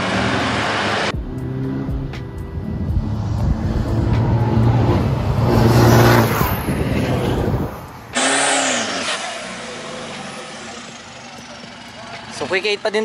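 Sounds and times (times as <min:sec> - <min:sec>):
diesel engine revving: 0:00.0 - 0:13.0
diesel pickup truck accelerating: 0:00.0 - 0:13.0.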